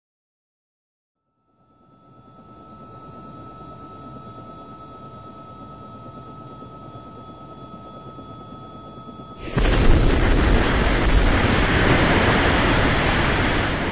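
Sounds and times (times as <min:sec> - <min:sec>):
aircraft engine drone: 0:02.0 - 0:13.9.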